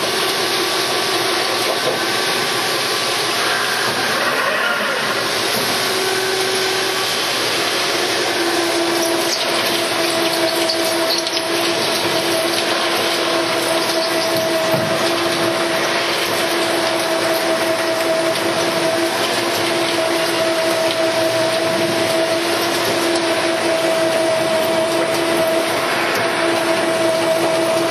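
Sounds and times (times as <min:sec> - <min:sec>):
high machine whine: 0:00.0 - 0:27.9
machine hum: 0:00.0 - 0:27.9
machining and coolant spray hiss: 0:00.0 - 0:27.9.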